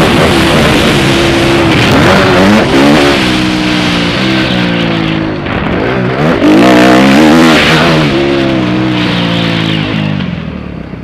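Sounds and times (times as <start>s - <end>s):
motocross bike engine revving: 0.0s - 10.4s.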